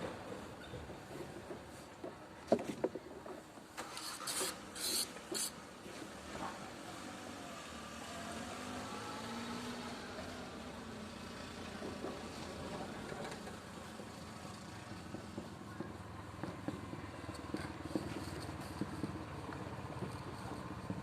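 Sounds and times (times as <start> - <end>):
motor vehicle running: 3.8 - 21.0.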